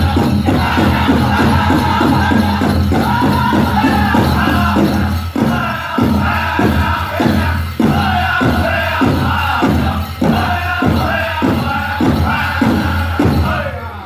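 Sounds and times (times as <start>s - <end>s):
big drum beating: 0.0s - 13.6s
group voices singing: 0.0s - 14.0s.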